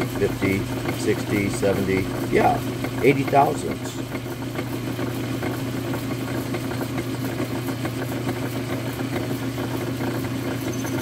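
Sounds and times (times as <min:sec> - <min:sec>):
low motor hum: 0:00.0 - 0:11.0
metal lathe running: 0:00.0 - 0:11.0.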